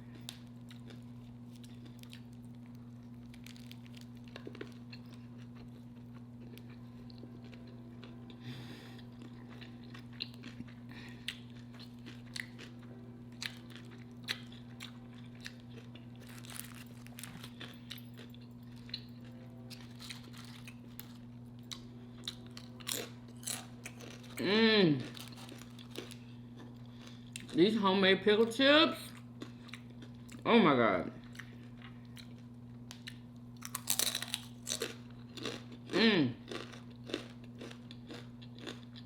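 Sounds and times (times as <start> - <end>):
steady low hum: 0.0 - 39.0
chewing pickle crunches: 0.2 - 8.4, 9.0 - 27.6, 29.1 - 30.4, 31.2 - 39.0.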